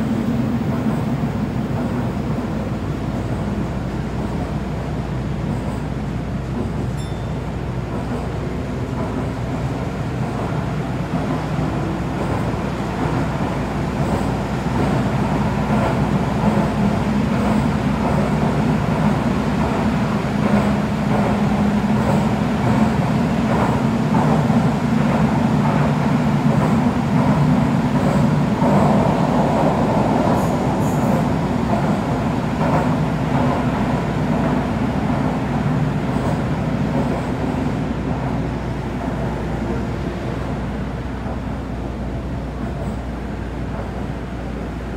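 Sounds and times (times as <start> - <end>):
subway car running rumble: 0.0 - 44.9.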